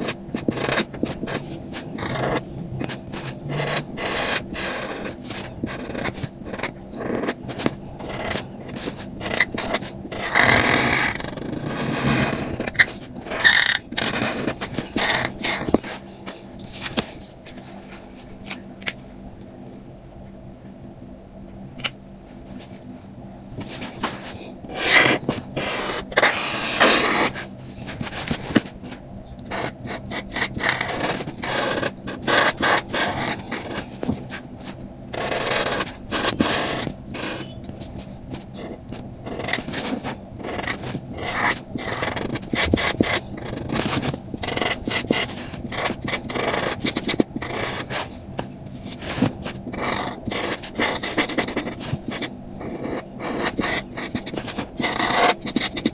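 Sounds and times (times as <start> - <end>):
drawing tool scratching paper: 0.0 - 17.2, 23.6 - 55.9.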